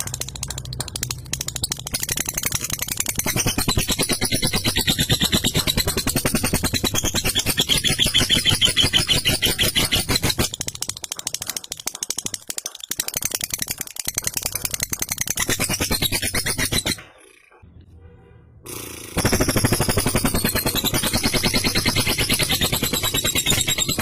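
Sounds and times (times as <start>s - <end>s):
lovebird rattling chatter: 0.0s - 17.5s, 19.1s - 24.0s.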